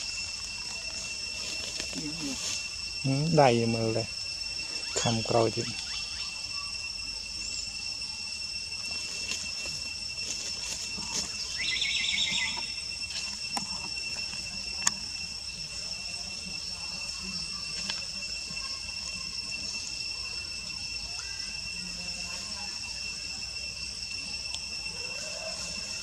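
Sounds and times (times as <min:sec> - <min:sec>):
high-pitched insect chorus: 0:00.0 - 0:26.0
pulsed insect call: 0:00.0 - 0:26.0.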